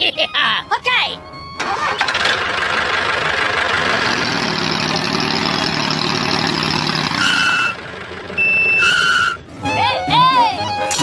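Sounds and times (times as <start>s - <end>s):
tractor engine idling: 0.7s - 9.8s.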